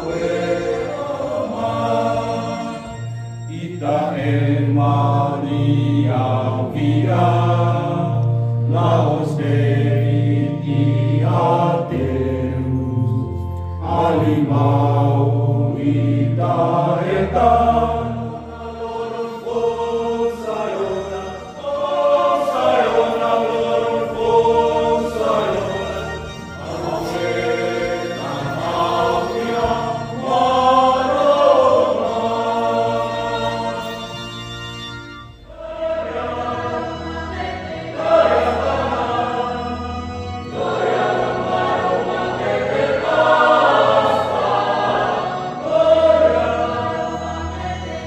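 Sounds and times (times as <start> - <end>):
group singing a hymn: 0.0 - 48.0.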